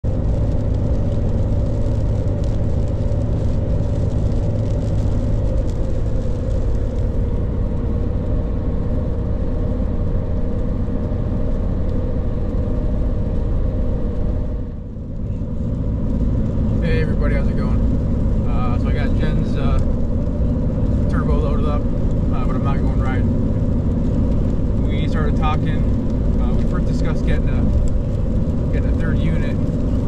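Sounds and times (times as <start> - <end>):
road and engine rumble in cabin: 0.0 - 30.0.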